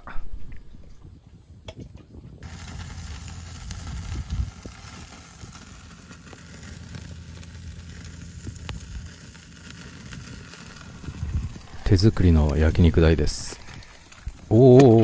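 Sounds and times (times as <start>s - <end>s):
low rumble: 2.4s - 14.6s
food sizzling on grill: 2.4s - 14.8s
charcoal crackles and pops: 2.4s - 15.0s.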